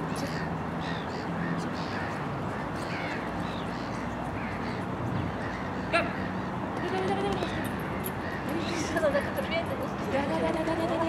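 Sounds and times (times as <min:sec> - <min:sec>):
birds chirping: 0:00.0 - 0:11.0
outdoor background noise: 0:00.0 - 0:11.0.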